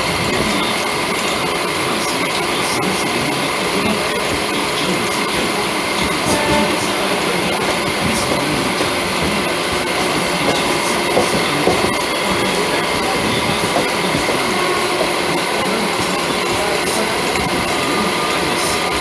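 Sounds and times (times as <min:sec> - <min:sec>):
train wheels rumbling on rail: 0:00.0 - 0:19.0
wind: 0:00.0 - 0:19.0.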